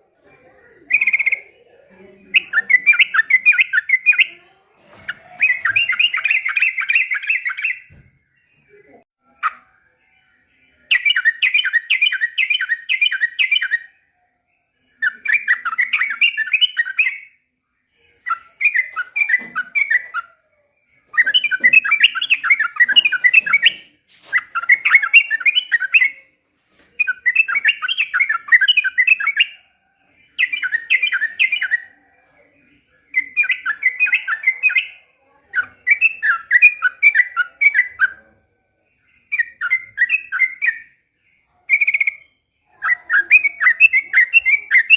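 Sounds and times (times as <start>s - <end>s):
bird chattering song: 0.0s - 14.0s, 14.8s - 17.4s, 18.0s - 44.9s.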